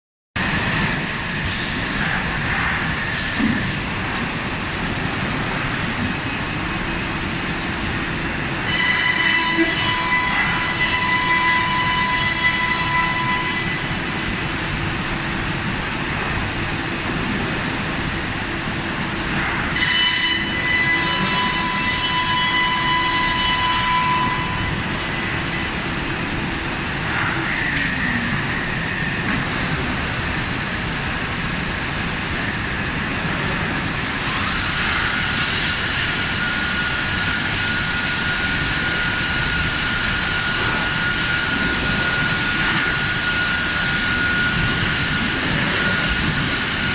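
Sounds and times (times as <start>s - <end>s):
high spindle whine: 5.2s - 30.6s, 32.3s - 46.9s.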